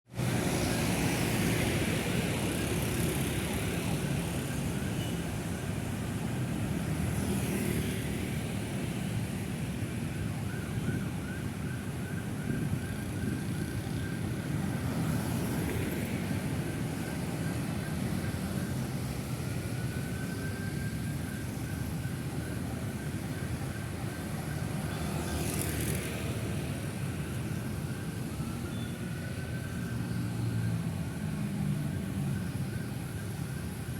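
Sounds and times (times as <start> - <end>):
traffic engine rumble: 0.1 - 33.9
vehicles swishing past: 0.2 - 9.7, 12.5 - 33.9.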